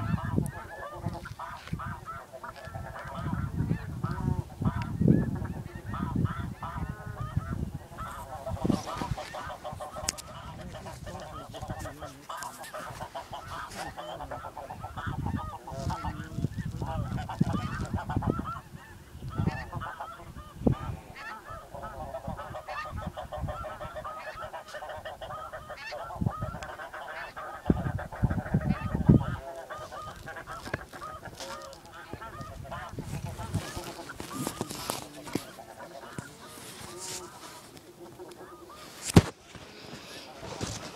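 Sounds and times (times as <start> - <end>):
geese honking: 0.0 - 40.9.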